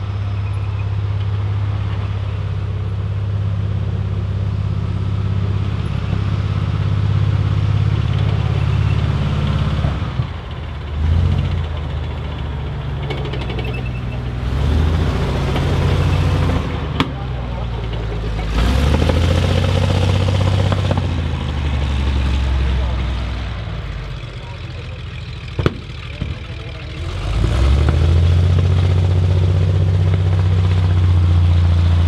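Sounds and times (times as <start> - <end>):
diesel engine rumbling and revving: 0.0 - 32.0.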